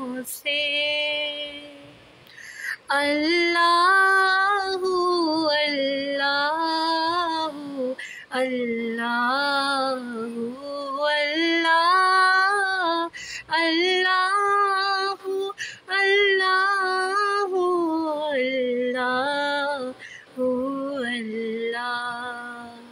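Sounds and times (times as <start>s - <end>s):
woman singing devotional song: 0.0s - 22.9s.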